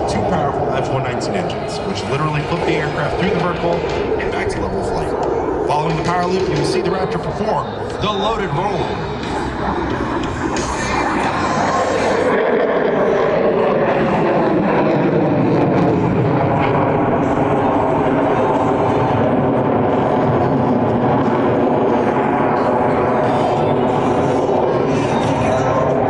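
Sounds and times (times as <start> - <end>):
loud jet engine noise: 0.0 - 26.0.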